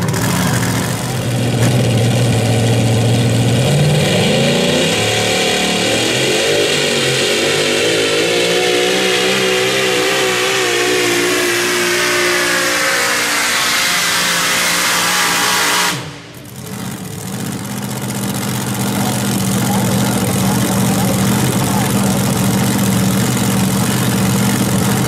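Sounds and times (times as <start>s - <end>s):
supercharged engine pulling a sled: 0.0s - 25.0s
truck engines at high revs: 0.0s - 25.0s.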